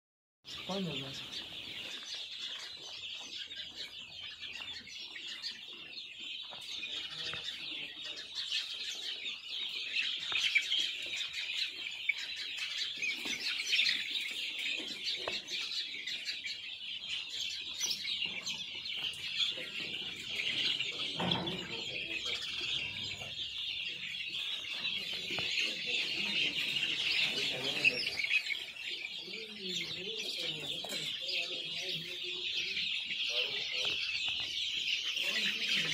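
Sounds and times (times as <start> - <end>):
chicks peeping: 0.4 - 35.9.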